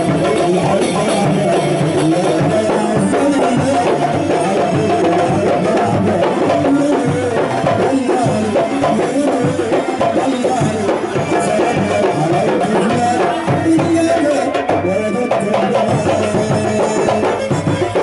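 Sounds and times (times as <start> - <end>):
frame drums and hand drums: 0.0 - 18.0.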